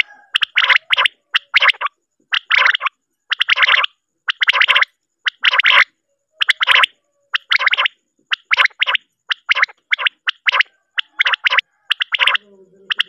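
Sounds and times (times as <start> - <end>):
quail calling: 0.0 - 13.0.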